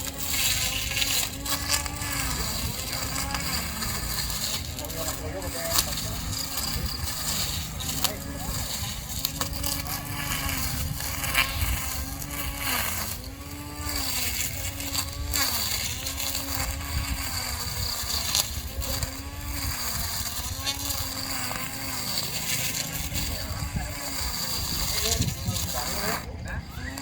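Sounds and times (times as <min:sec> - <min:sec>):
electric lawn mower motor running: 0:00.0 - 0:27.0.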